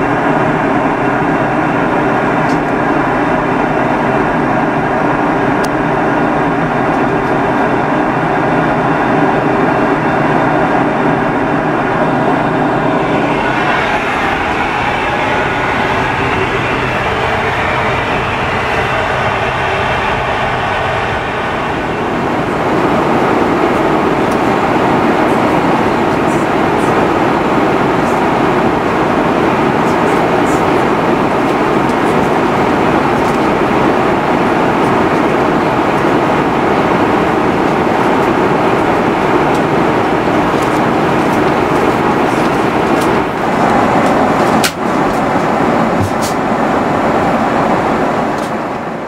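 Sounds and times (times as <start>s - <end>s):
airplane cabin noise: 0.0s - 49.0s.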